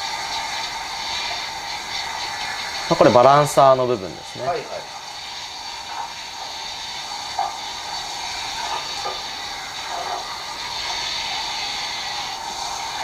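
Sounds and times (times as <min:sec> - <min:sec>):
water spray hissing: 0:00.0 - 0:13.0.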